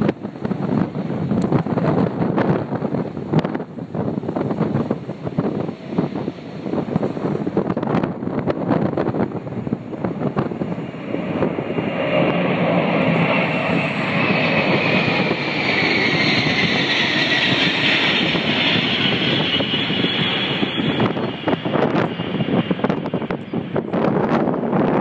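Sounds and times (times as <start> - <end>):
jet plane flying overhead: 0.0 - 25.0
wind buffeting microphone: 0.0 - 25.0.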